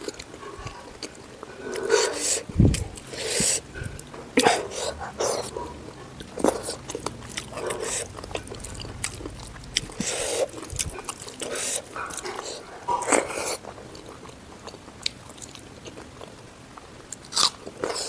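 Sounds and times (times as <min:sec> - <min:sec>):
close wet chewing smacks: 0:00.0 - 0:18.0.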